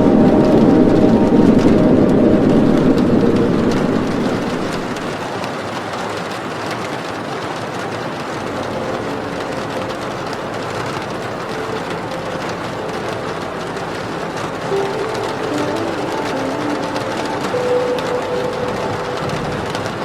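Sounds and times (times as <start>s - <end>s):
faint music tones: 0.0s - 5.3s, 8.0s - 20.0s
steady rain falling: 0.0s - 20.0s.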